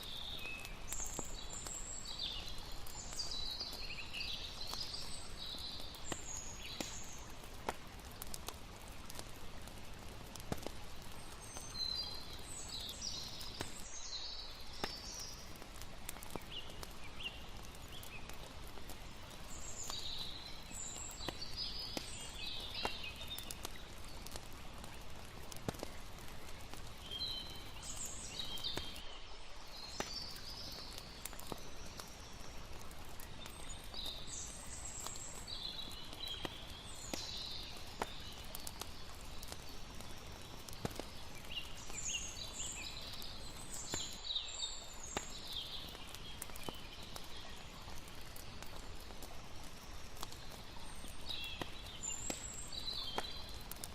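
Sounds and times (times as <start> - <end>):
campfire crackling: 0.0 - 53.9
flowing water: 0.0 - 53.9.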